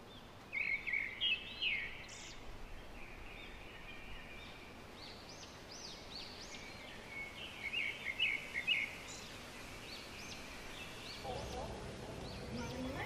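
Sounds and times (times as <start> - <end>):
birds calling: 0.0 - 13.0
birds chattering: 0.0 - 13.0
faint outdoor background noise: 0.0 - 13.0.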